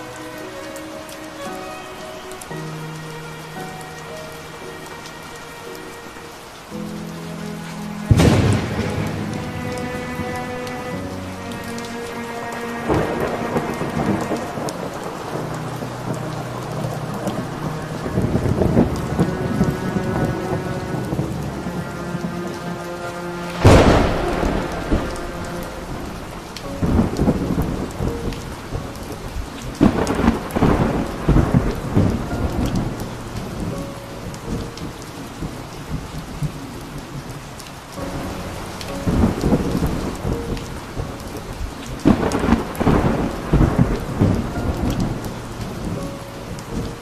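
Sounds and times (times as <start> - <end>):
heavy rain downpour: 0.0 - 47.0
thunder rumbling: 7.9 - 47.0.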